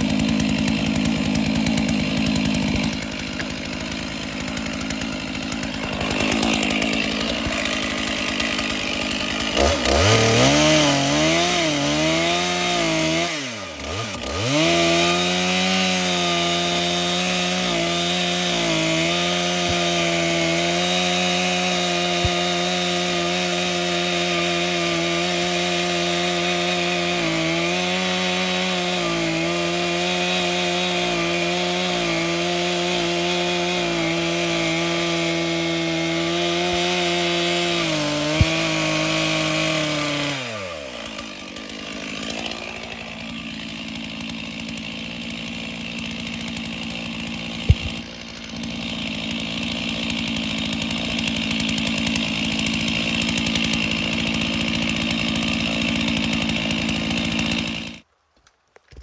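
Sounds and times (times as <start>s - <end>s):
chainsaw cutting through log: 0.0s - 58.1s.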